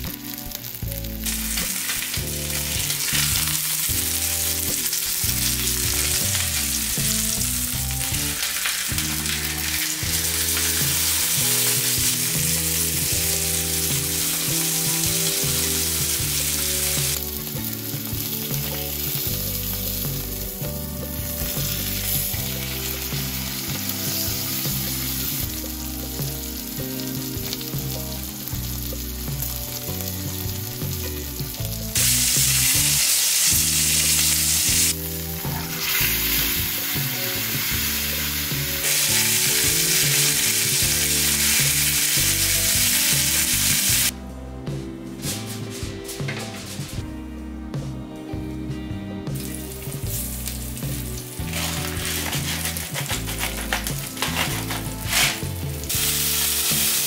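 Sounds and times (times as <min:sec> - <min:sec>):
steak sizzling in a pan: 0:00.0 - 0:44.1, 0:49.4 - 0:57.0.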